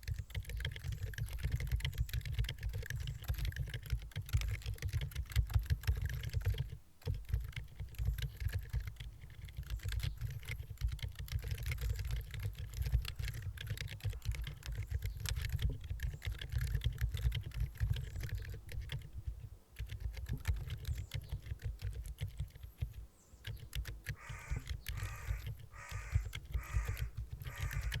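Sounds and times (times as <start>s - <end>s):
damped keyboard typing: 0.0s - 28.0s.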